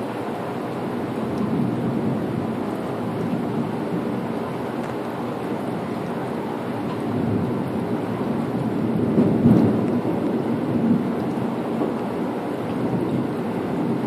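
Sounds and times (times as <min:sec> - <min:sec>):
thunder rumbling: 0:01.1 - 0:14.0.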